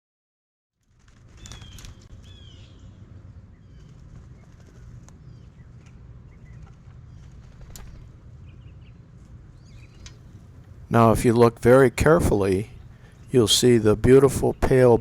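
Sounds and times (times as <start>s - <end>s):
small birds chirping: 1.3s - 15.0s.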